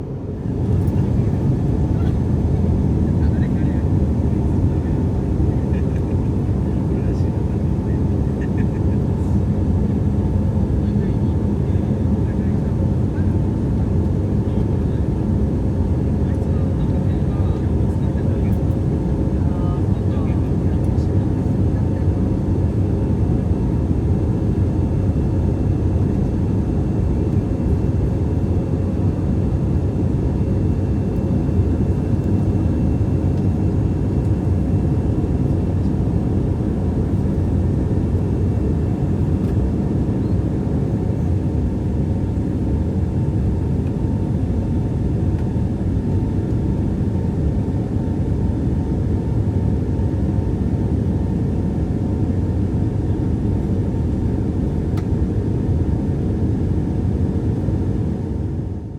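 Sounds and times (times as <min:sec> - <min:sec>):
jet engine drone in cabin: 0:00.0 - 0:58.9.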